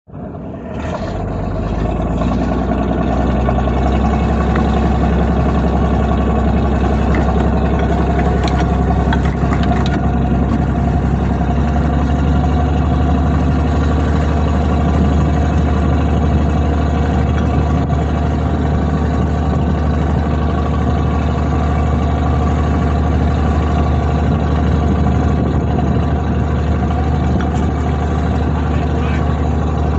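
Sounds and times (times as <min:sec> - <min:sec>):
diesel engine humming: 0:00.1 - 0:29.9.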